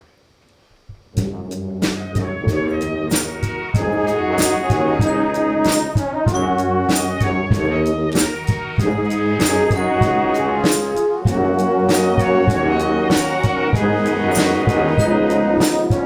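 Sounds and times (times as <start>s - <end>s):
brass band music: 1.1s - 16.0s.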